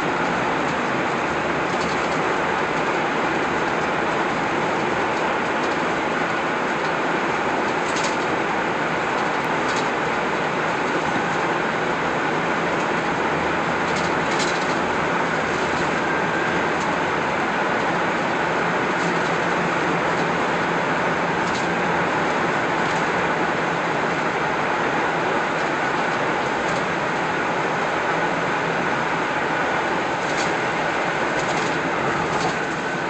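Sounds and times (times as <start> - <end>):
car road and tyre noise: 0.0 - 33.0.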